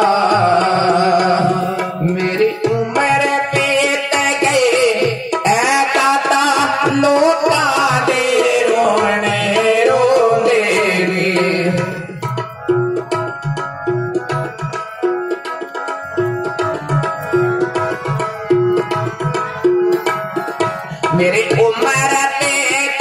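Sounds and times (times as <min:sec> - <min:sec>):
tabla playing: 0:00.0 - 0:23.0.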